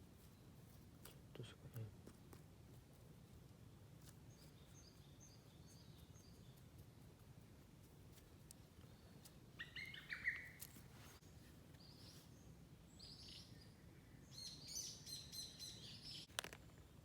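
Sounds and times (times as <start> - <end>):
small birds chirping: 2.9 - 17.0.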